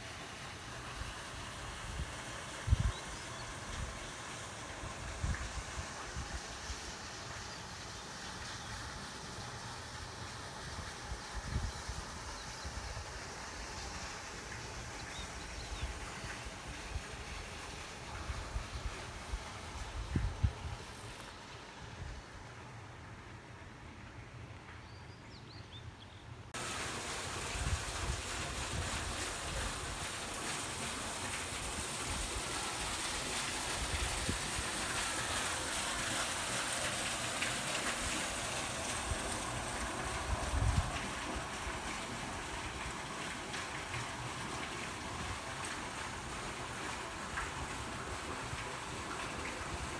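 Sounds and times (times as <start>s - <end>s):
running water rushing: 0.0s - 25.1s, 25.8s - 49.9s.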